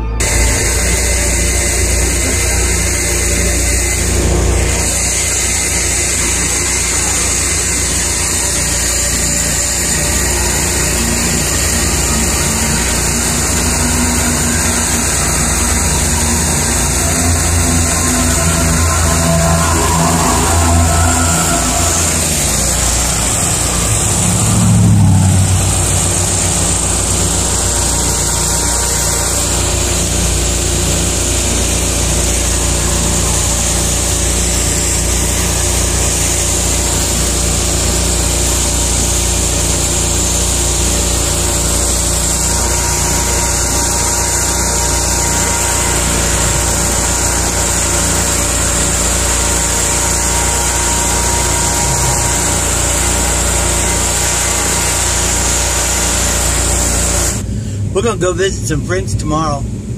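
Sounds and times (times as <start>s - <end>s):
lawn mower engine running: 0.0s - 58.2s.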